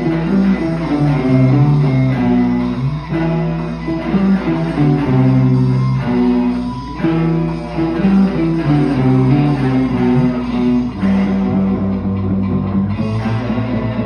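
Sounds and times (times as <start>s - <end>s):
guitar playing a melody: 0.0s - 14.0s.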